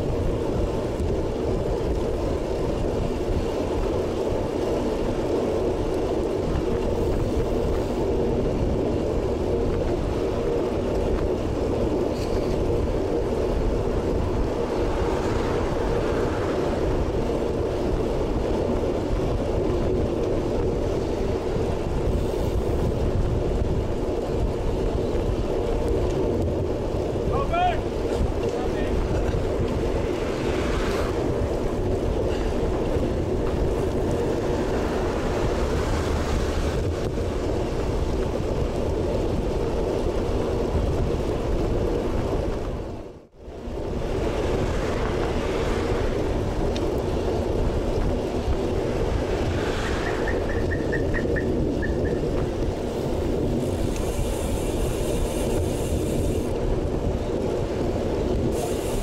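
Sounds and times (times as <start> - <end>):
wind rush on microphone: 0.0 - 59.0.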